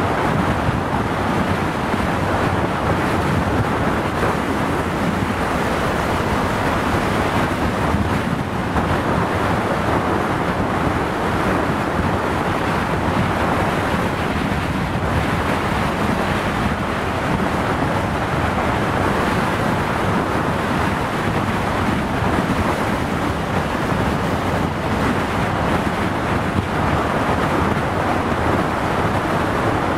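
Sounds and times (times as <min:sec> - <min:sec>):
road and engine rumble: 0:00.0 - 0:29.9
wind rushing over microphone: 0:00.0 - 0:29.9.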